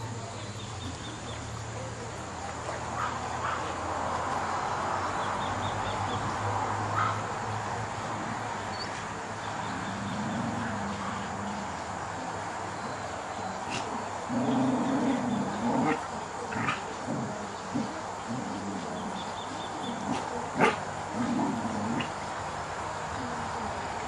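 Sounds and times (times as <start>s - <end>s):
background hiss: 0.0s - 24.0s.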